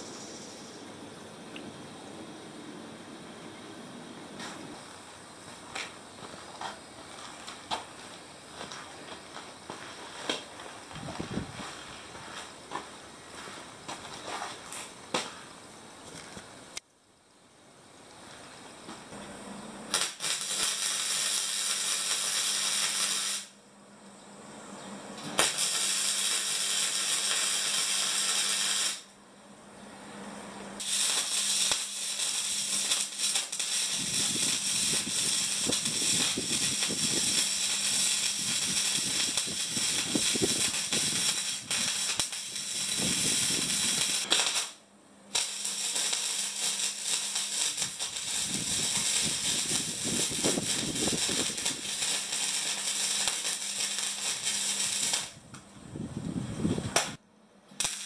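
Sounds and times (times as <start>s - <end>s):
arc welding crackling hiss: 0.0s - 1.0s, 3.5s - 16.8s, 18.0s - 23.6s, 25.2s - 29.2s, 30.8s - 55.5s, 56.7s - 58.0s.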